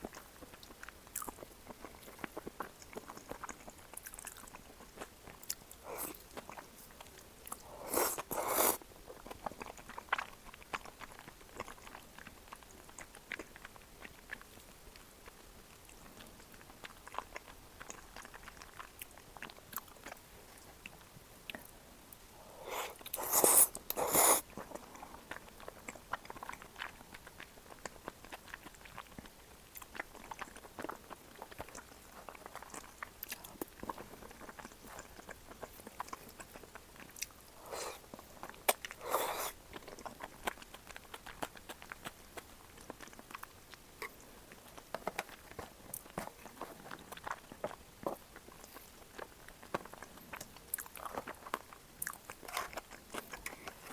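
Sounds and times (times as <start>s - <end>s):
soft chewing: 0.0s - 53.9s.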